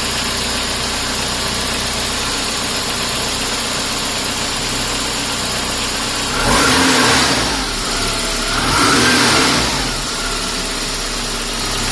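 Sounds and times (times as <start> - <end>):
car engine idling and revving: 0.0 - 11.9.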